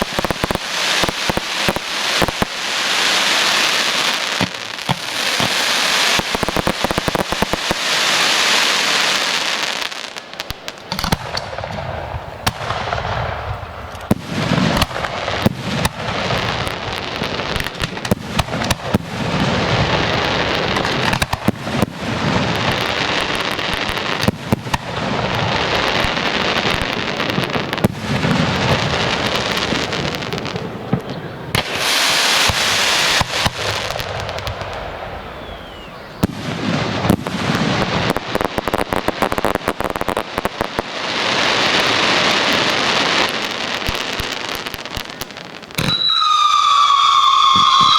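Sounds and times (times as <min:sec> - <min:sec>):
fireworks bangs and booms: 0:00.0 - 0:47.9
fireworks crackling hiss: 0:00.0 - 0:47.9.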